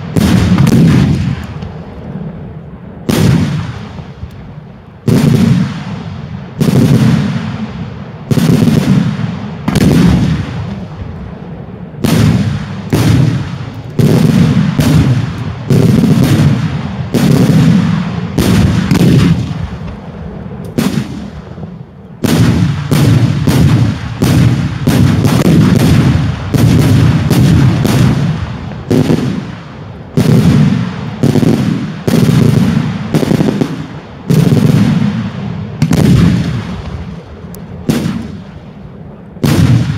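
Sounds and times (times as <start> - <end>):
fireworks bangs with rolling rumble: 0.0 - 39.9.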